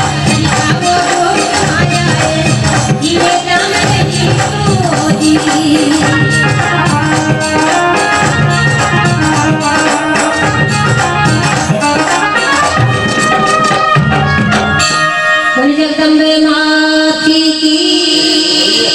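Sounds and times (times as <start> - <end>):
hand drums: 0.0 - 15.4
jingling percussion: 0.0 - 15.4.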